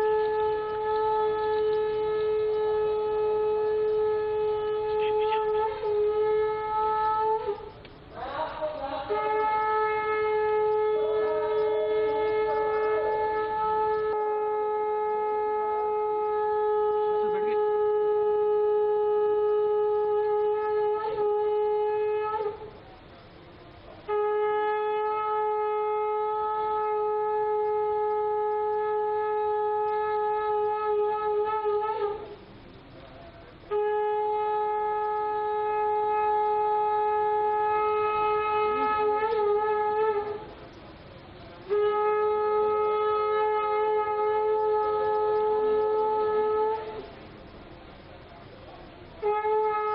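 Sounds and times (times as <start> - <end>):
conch shell blasts: 0.0 - 49.9.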